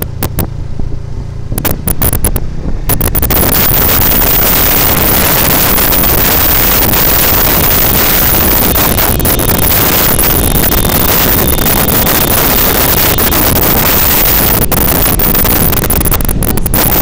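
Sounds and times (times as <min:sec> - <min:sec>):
motorcycle engine and road rumble: 0:00.0 - 0:17.0
wind buffeting microphone: 0:00.0 - 0:17.0
crackles: 0:01.6 - 0:17.0.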